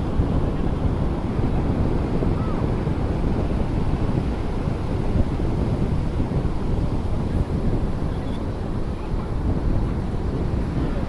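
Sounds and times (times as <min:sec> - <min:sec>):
sea waves washing on shore: 0:00.0 - 0:11.0
wind buffeting microphone: 0:00.0 - 0:11.0.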